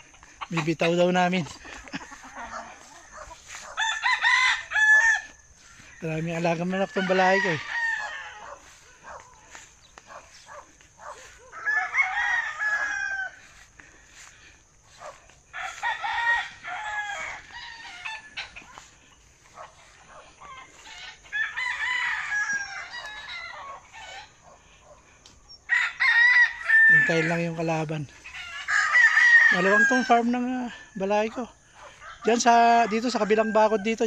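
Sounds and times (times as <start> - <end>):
rooster crowing: 0.0 - 25.0, 25.7 - 34.0.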